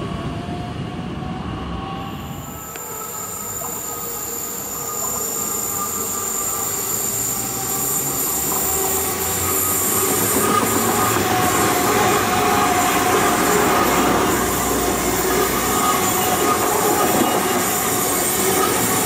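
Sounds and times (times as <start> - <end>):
electric train passing: 0.0 - 19.0
high steady whine: 0.0 - 19.0.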